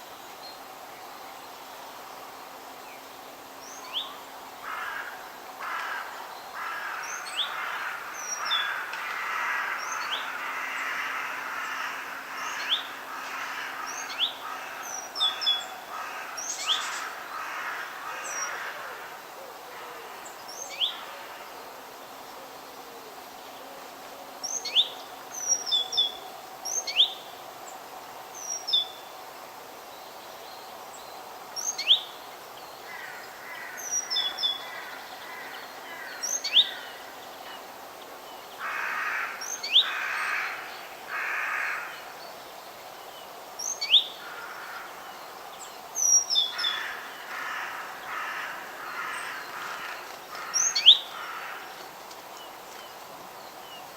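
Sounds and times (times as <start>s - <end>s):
background hiss: 0.0s - 53.9s.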